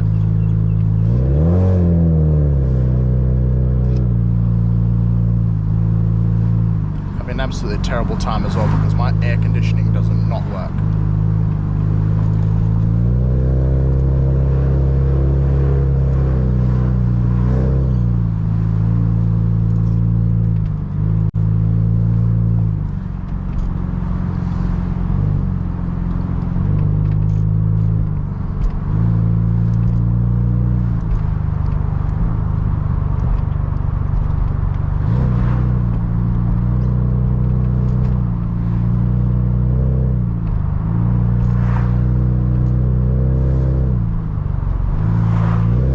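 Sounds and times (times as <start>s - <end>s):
car engine running: 0.0s - 45.9s
road noise inside car: 0.0s - 45.9s.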